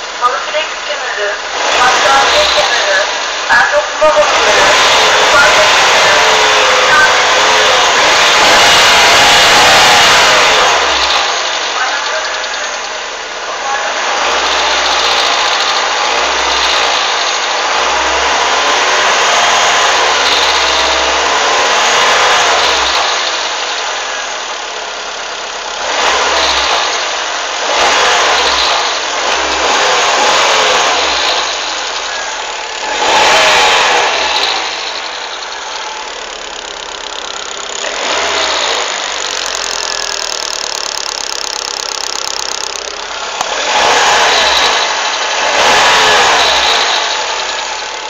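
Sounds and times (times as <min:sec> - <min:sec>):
car engine revving: 0:00.0 - 0:48.0
engine clicking noise: 0:00.0 - 0:48.0.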